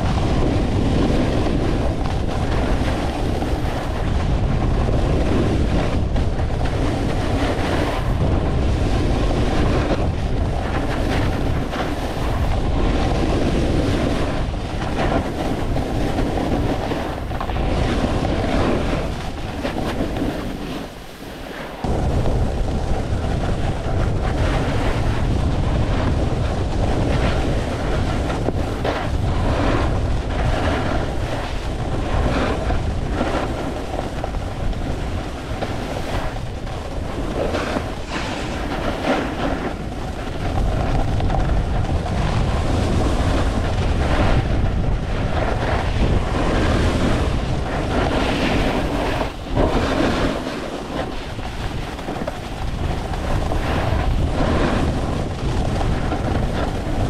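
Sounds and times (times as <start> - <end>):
snowboard edge scraping snow: 0.0 - 57.0
wind rushing over microphone: 0.0 - 57.0.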